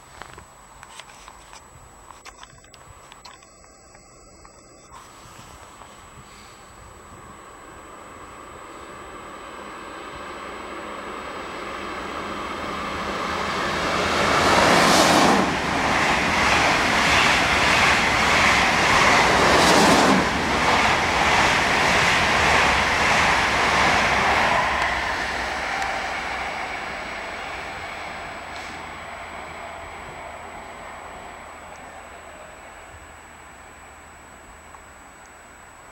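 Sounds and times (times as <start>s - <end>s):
train passing at speed: 5.0s - 35.9s.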